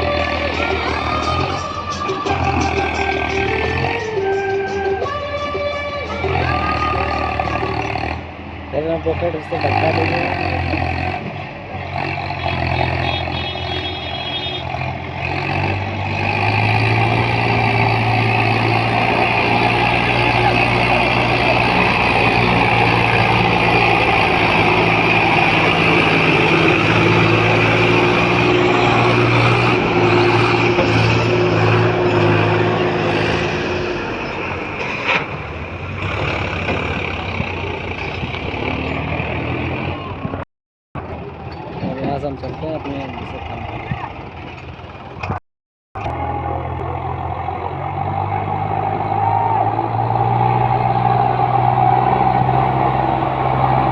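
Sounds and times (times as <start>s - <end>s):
tractor diesel engine under load: 0.0s - 45.4s, 46.0s - 53.9s.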